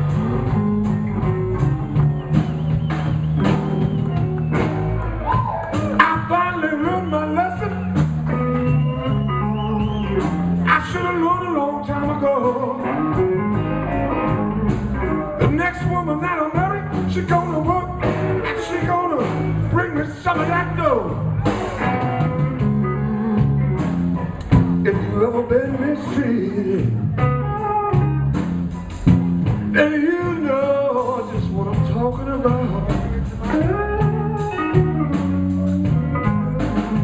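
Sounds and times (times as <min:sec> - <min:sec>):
blues band playing: 0:00.0 - 0:37.0.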